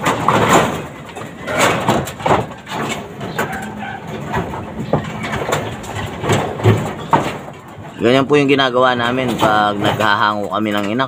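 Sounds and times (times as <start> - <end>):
pigeons rustling and clattering: 0.0 - 11.0.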